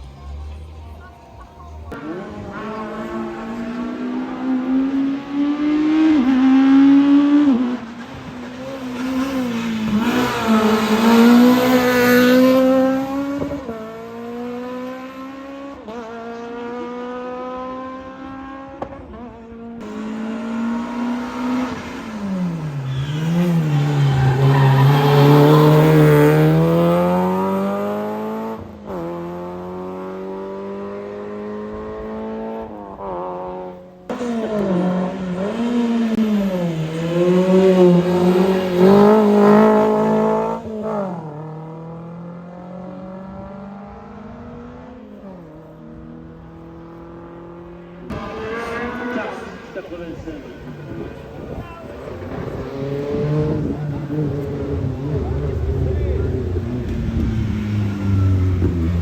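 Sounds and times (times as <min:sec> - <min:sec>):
race cars accelerating past: 0:00.0 - 0:59.0.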